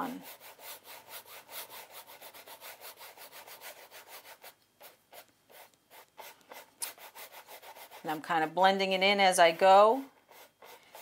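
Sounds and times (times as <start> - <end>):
paintbrush rubbing on canvas: 0.0 - 8.3, 10.2 - 11.0.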